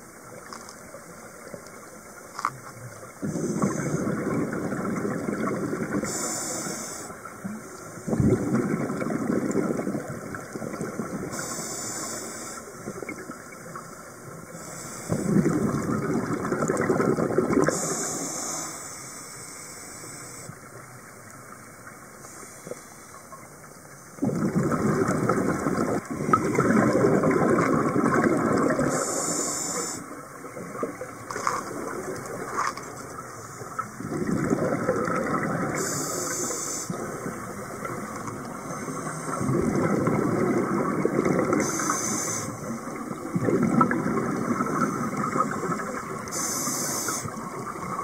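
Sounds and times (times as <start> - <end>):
sea water rushing: 2.8 - 48.0.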